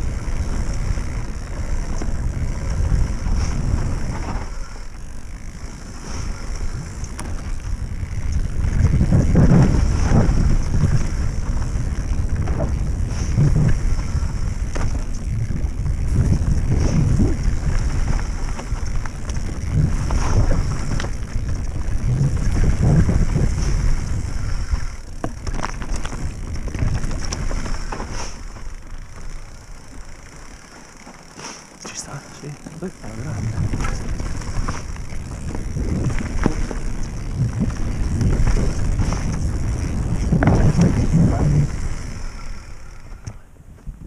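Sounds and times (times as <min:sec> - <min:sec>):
wind buffeting microphone: 0:00.0 - 0:31.1, 0:31.8 - 0:44.0
mountain bike rattling on trail: 0:00.0 - 0:44.0.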